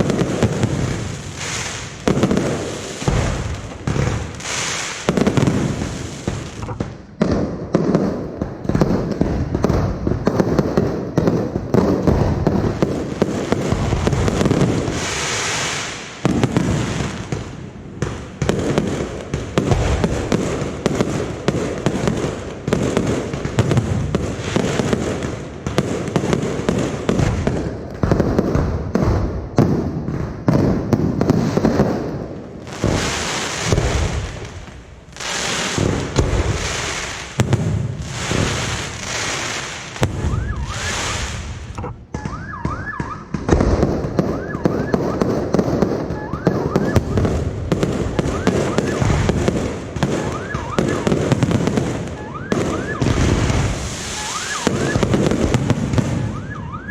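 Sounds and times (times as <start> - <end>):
fireworks bursting: 0.0 - 56.9.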